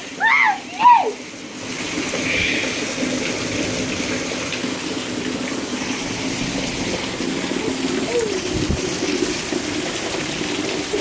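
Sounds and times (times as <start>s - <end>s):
heavy downpour of rain: 0.0s - 11.0s.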